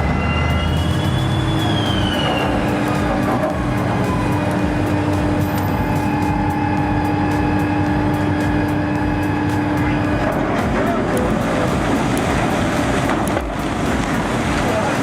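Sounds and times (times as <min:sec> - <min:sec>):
background music: 0:00.0 - 0:15.0
heavy engine rumbling: 0:00.0 - 0:15.0.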